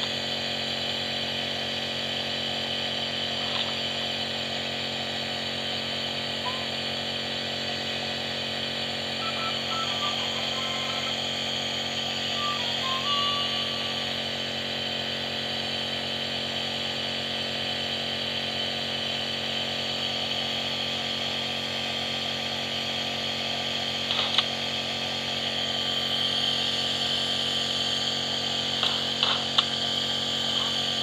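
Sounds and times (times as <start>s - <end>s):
nebulizer motor hum and hiss: 0.0s - 31.0s.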